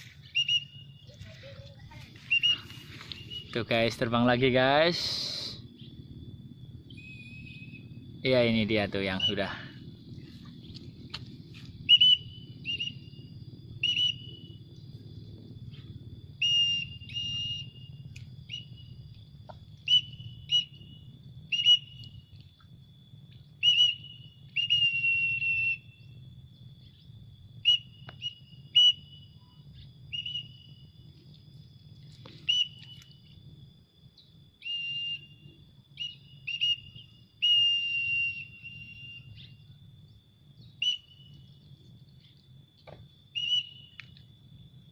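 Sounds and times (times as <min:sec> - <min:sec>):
faint insect drone: 0:00.0 - 0:44.9.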